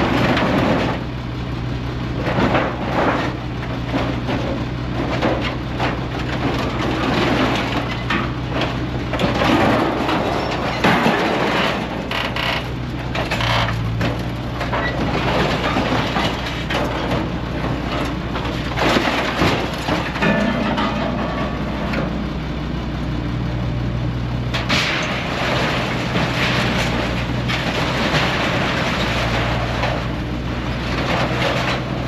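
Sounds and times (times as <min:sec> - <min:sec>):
heavy machine engine running: 0:00.0 - 0:32.0
metal crunching and scraping: 0:00.0 - 0:32.0.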